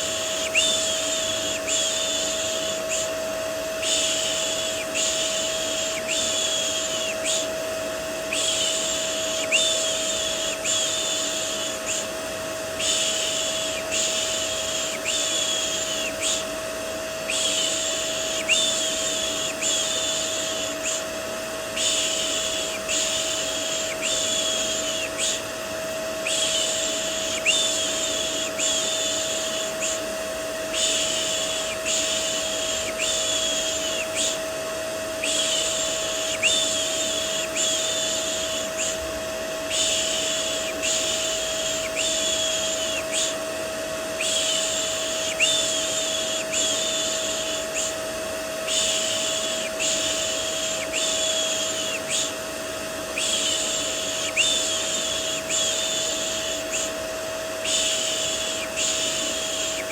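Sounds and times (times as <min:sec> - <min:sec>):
vacuum cleaner humming: 0:00.0 - 0:59.9.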